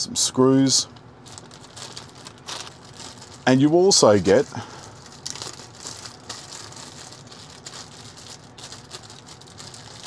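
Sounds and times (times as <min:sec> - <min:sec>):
plastic bag crinkling: 0:01.2 - 0:10.0.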